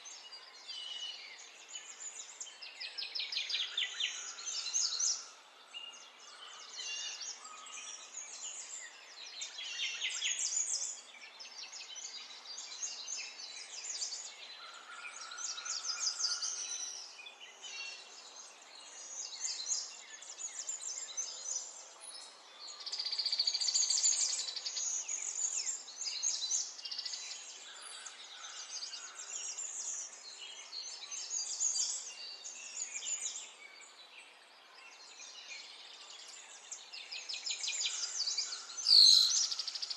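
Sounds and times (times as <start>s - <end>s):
birds chirping and singing: 0.1s - 34.1s, 34.8s - 39.9s.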